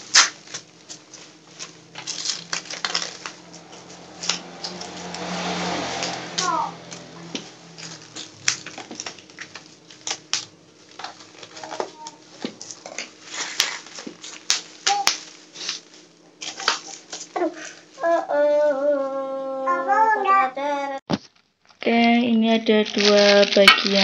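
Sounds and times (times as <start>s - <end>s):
bubble wrap crinkling: 0.0s - 5.1s, 6.9s - 19.2s, 21.1s - 24.0s.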